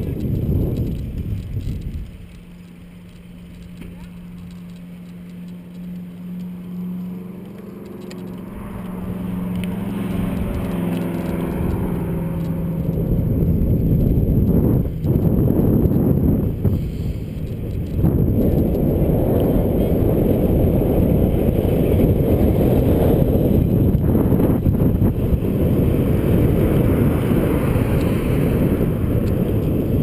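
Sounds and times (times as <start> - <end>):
steady low hum: 0.0 - 30.0
wind rushing over microphone: 0.0 - 30.0.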